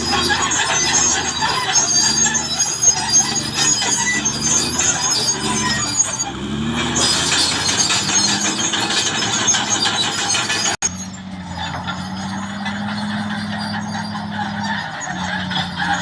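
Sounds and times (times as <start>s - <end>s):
bulldozer diesel engine: 0.0s - 16.0s
high-pitched steel track noise: 0.0s - 16.0s.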